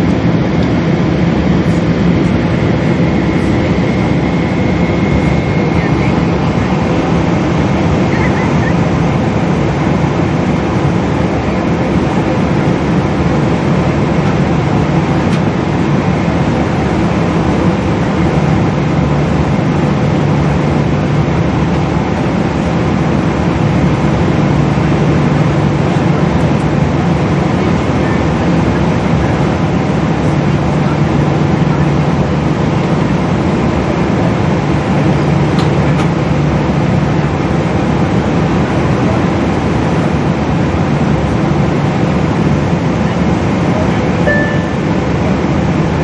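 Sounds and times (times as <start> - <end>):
jet engine drone in cabin: 0.0 - 46.0.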